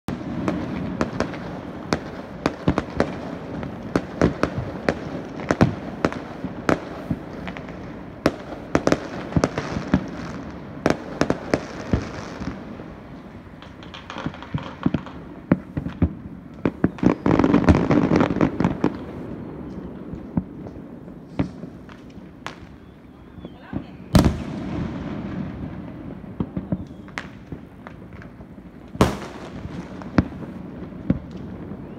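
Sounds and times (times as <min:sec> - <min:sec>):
fireworks bangs and pops: 0:00.1 - 0:31.9.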